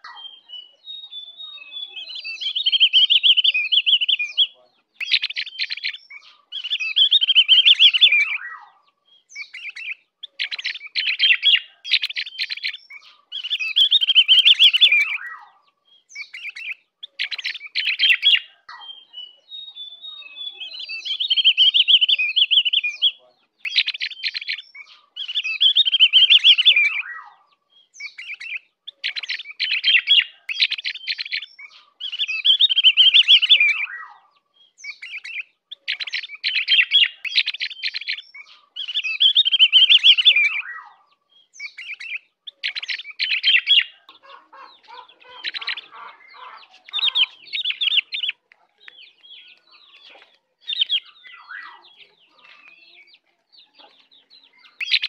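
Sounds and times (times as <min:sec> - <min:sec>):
bird twittering song: 0:00.0 - 0:55.0
low sound under birdsong: 0:00.0 - 0:55.0.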